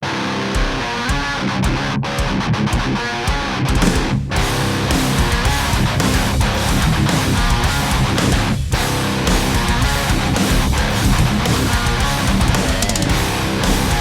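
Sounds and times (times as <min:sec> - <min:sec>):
distorted electric guitar strumming: 0:00.0 - 0:14.0
heavy rock beat: 0:00.0 - 0:14.0.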